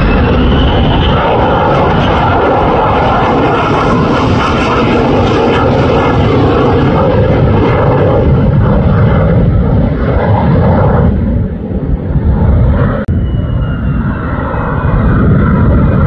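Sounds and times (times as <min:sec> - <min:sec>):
jet engine rumbling flyby: 0:00.0 - 0:16.0.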